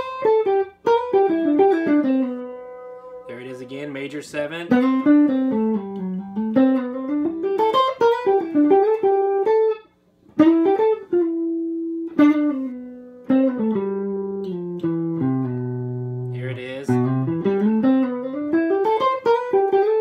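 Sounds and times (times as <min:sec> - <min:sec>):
electric guitar jazzy lead: 0:00.0 - 0:20.0.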